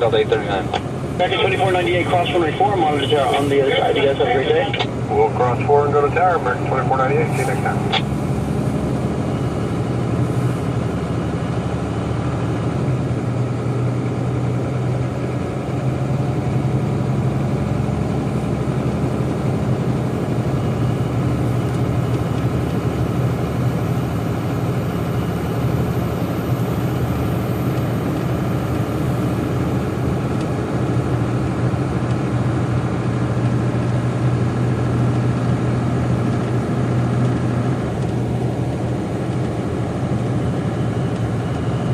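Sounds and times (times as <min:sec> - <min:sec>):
idling engines low drone: 0:00.0 - 0:41.9.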